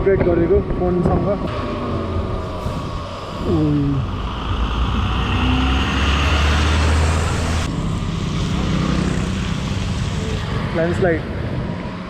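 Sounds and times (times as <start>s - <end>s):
wind rush and road noise: 0.0s - 12.0s.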